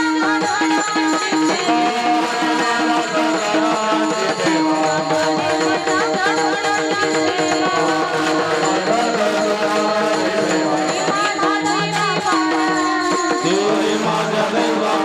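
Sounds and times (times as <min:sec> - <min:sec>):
hand drum percussion: 0:00.0 - 0:15.0.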